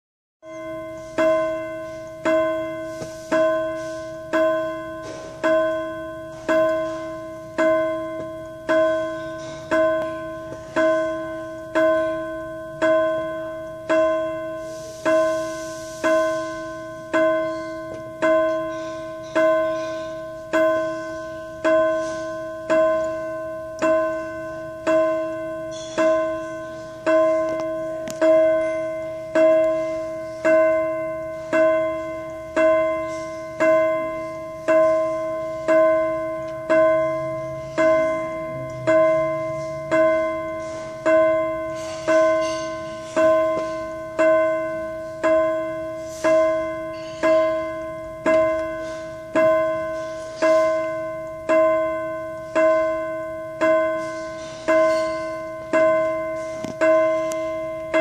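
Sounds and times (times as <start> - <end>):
bell ringing: 0.4 - 58.0.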